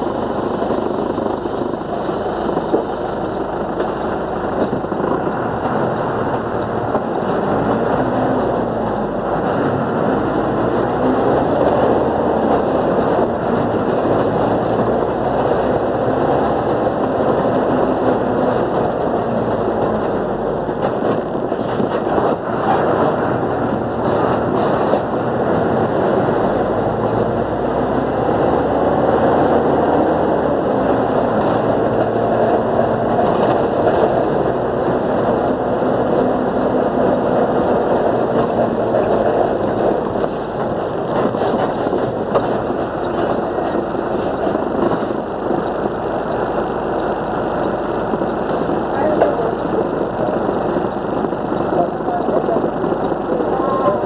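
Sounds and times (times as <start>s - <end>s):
bus engine running: 0.0s - 54.0s
road noise: 0.0s - 54.0s.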